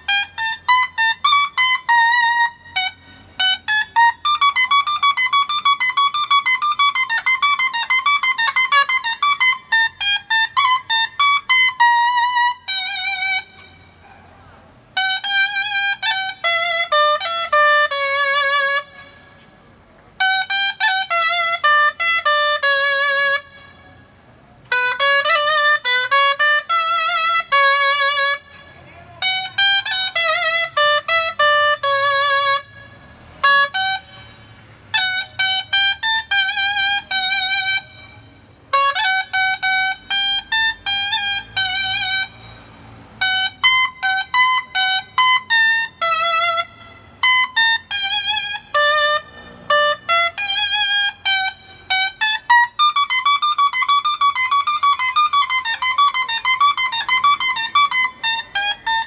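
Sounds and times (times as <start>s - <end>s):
double-reed shawm melody: 0.0s - 59.0s.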